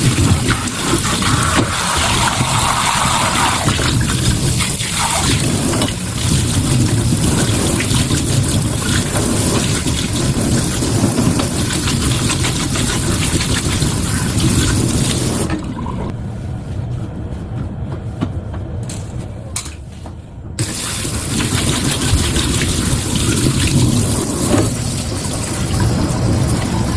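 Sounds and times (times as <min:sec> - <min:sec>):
hissing water spray: 0:00.0 - 0:15.5, 0:20.6 - 0:26.9.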